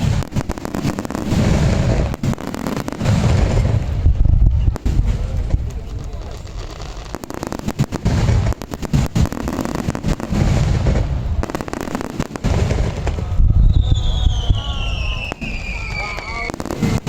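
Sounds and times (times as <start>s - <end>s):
firework booms: 0.0s - 17.0s
sharp crackling pops: 0.0s - 17.0s.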